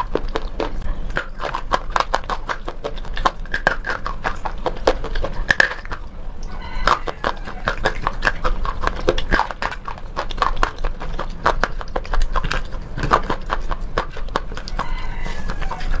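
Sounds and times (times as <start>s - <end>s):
pencil being bitten and chewed: 0.0s - 6.0s, 6.8s - 16.0s.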